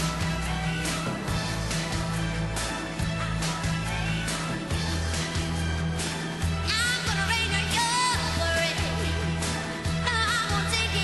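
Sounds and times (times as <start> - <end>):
drums: 0.0 - 11.0
pop band instrumental: 0.0 - 11.0
sustained bass line: 0.0 - 11.0.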